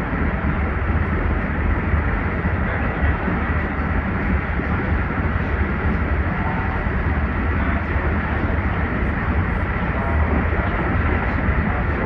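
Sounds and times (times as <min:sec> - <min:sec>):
train rumbling with rushing hiss: 0:00.0 - 0:12.0.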